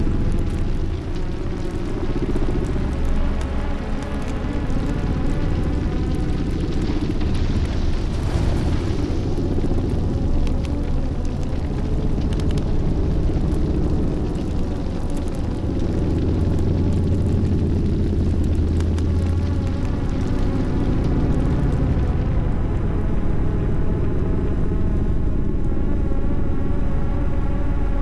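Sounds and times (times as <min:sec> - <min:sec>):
sharp crackles: 0:00.0 - 0:22.7
deep continuous rumbling: 0:00.0 - 0:28.0.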